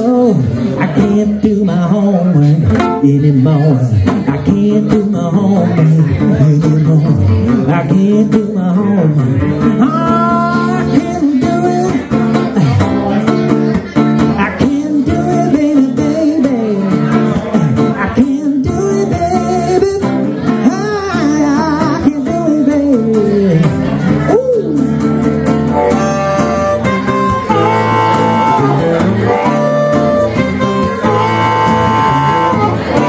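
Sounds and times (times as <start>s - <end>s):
acoustic guitar: 0.0s - 33.0s
man singing: 0.0s - 33.0s.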